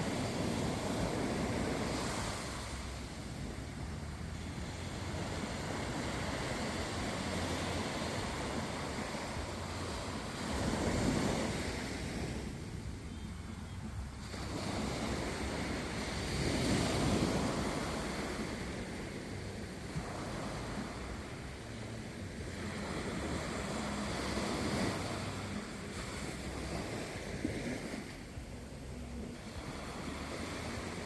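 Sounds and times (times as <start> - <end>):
ocean waves washing in: 0.0 - 31.0
wind rumble on microphone: 0.0 - 31.0.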